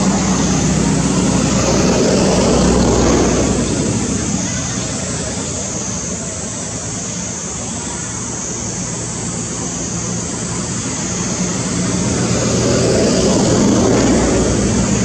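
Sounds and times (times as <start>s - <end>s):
engine drone: 0.0s - 15.0s
steady high hiss: 0.0s - 15.0s.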